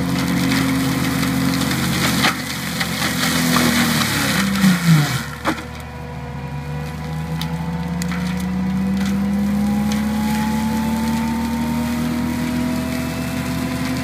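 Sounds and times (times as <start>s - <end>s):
wood splintering cracks: 0.0s - 6.0s, 6.7s - 14.0s
diesel engine running under load: 0.0s - 14.0s
mulcher drum grinding wood: 0.0s - 14.0s.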